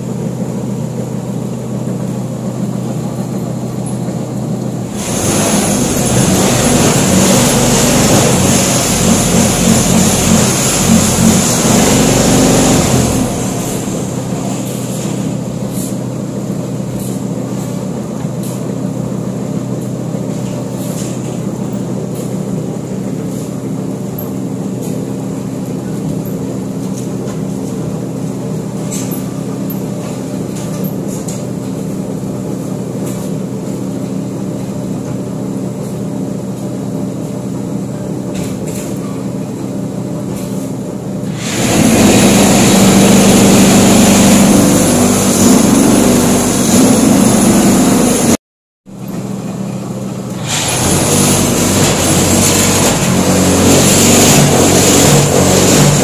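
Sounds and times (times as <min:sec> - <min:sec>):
machinery hum with steady tones: 0:00.0 - 0:56.0
rough loud machine noise: 0:00.0 - 0:56.0.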